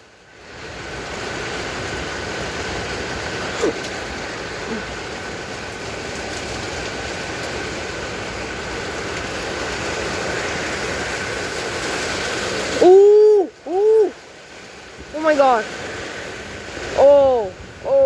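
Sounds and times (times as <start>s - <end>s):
heavy rain and wind: 0.0s - 18.0s.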